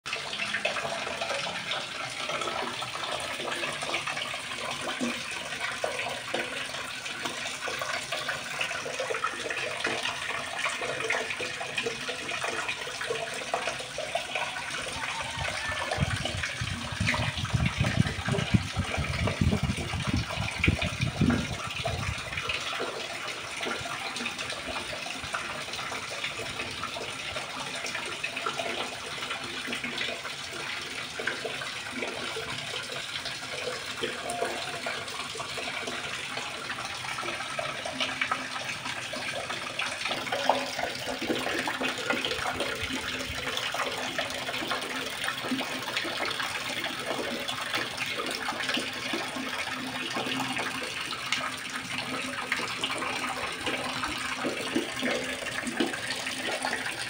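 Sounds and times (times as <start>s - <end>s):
water pouring and splashing: 0.1s - 57.0s.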